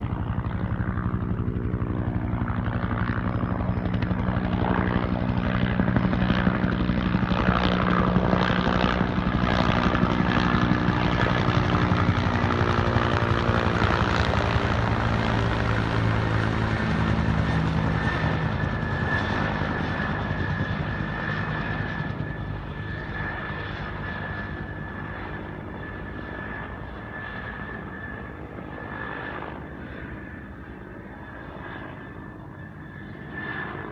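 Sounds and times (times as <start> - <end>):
helicopter rotor beating: 0.0 - 33.9.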